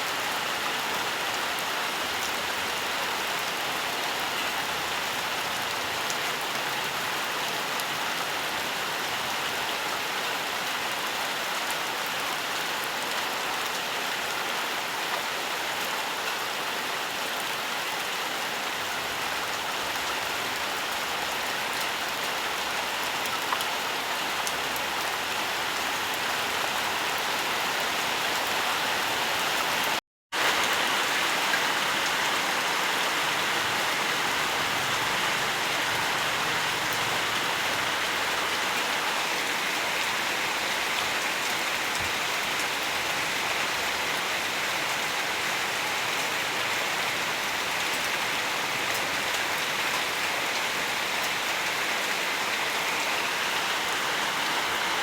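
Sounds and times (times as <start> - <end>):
dense rainfall hiss: 0.0 - 55.0.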